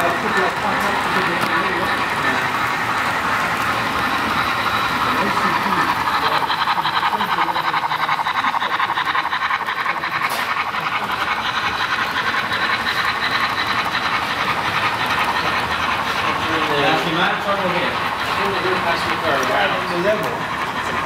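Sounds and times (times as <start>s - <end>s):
model train wheels clicking: 0.0s - 21.0s.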